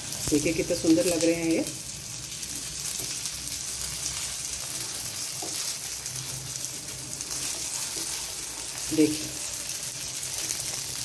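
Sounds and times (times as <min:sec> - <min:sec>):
cutlets sizzling in oil: 0:00.0 - 0:11.0.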